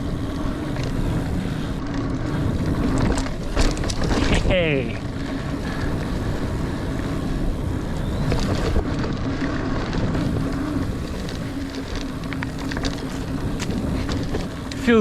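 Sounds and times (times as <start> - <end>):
bike clicks and rattles: 0.0 - 15.0
mountain bike tyre hum: 0.0 - 15.0
wind noise: 0.0 - 15.0.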